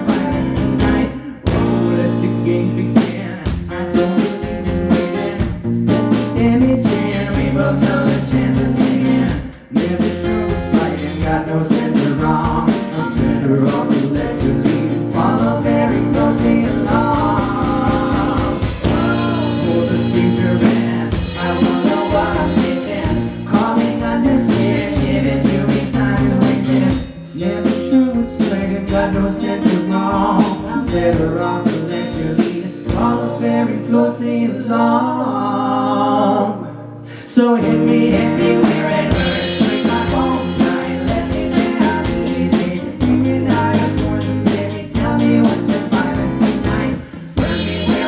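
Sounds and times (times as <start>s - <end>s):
rock band playing live: 0.0s - 33.6s, 37.6s - 48.0s
person singing: 0.0s - 48.0s.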